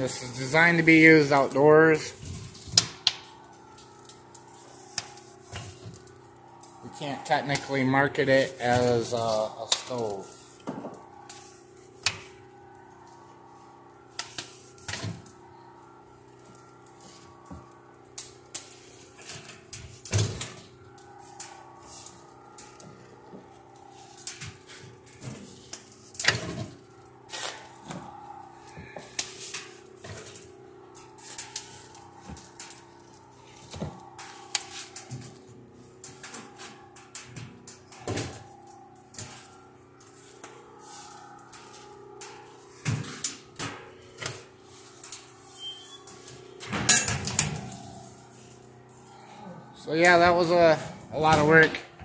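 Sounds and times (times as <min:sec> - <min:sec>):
steady low hum: 0:00.0 - 0:52.0
wood fire crackling and popping: 0:00.0 - 0:52.0.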